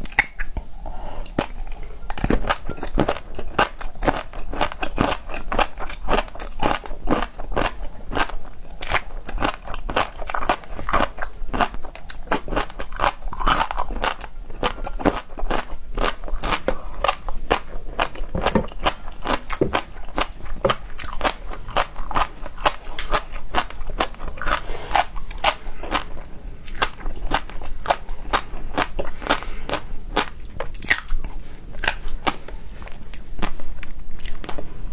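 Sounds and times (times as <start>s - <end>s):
chewing and crunching: 0.0s - 34.9s.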